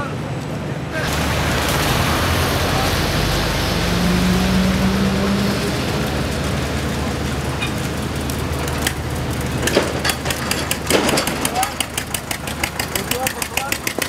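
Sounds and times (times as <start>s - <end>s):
road noise rushing: 0.0s - 14.0s
vehicle engine running: 0.0s - 14.0s.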